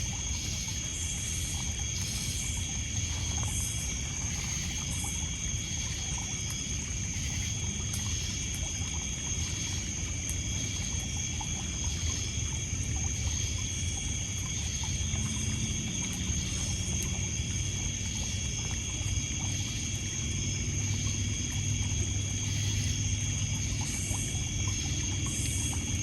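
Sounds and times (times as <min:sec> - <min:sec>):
crickets and insects chorus: 0:00.0 - 0:26.0
water lapping on pebbles: 0:00.0 - 0:26.0.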